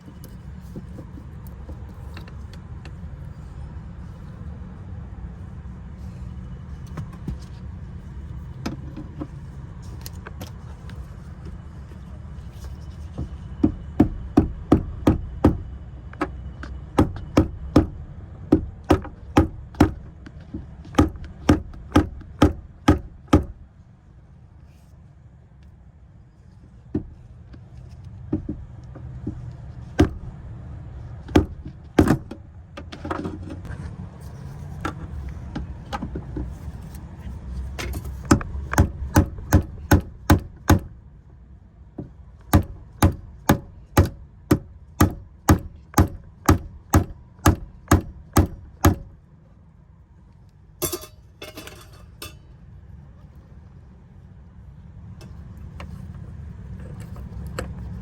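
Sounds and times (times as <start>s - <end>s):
low steady rumble: 0.0s - 58.0s.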